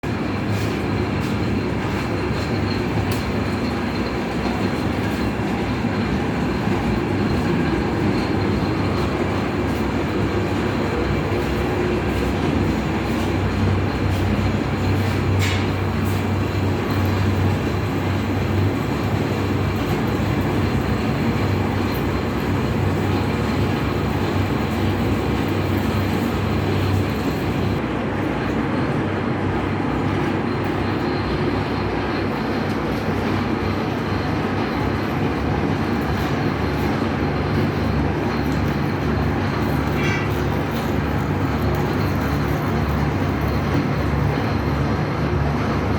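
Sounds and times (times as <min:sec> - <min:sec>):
metal lathe running: 0:00.0 - 0:28.8, 0:29.4 - 0:45.9.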